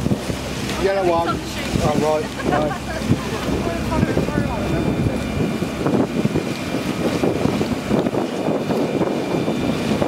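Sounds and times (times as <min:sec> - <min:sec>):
water rushing along hull: 0:00.0 - 0:10.0
wind buffeting microphone: 0:00.0 - 0:10.0.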